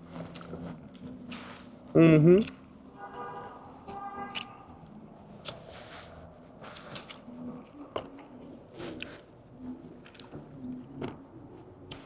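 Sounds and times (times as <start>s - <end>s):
person chewing food: 0.0s - 2.9s, 3.9s - 12.0s.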